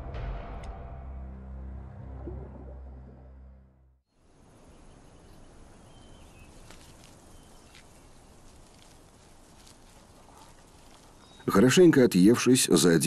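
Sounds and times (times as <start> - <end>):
outdoor meadow ambience: 0.0 - 13.0.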